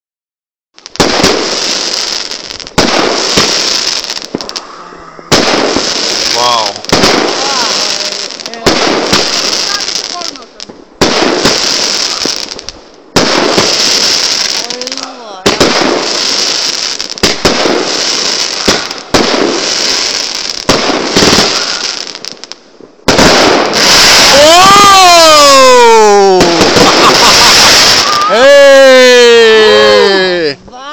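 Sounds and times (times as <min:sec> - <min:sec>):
fireworks banging: 0:00.8 - 0:04.7, 0:05.3 - 0:30.8
fireworks crackling: 0:00.8 - 0:30.9.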